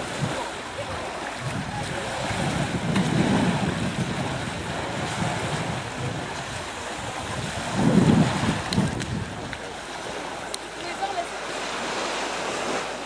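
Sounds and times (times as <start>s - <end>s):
wind gusting on microphone: 0.0s - 11.2s
gentle surf on a beach: 0.0s - 13.0s.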